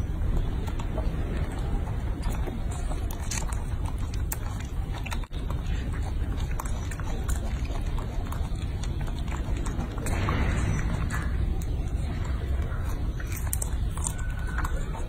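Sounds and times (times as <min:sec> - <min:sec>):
monkey chewing fruit: 0:00.0 - 0:15.0
steady low rumble: 0:00.0 - 0:15.0.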